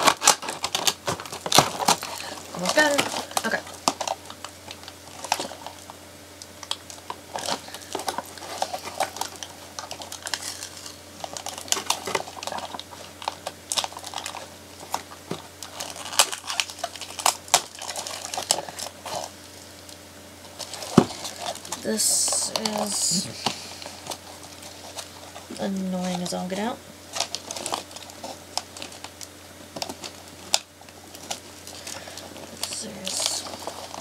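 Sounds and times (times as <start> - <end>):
packaging crinkling: 0.0 - 34.0.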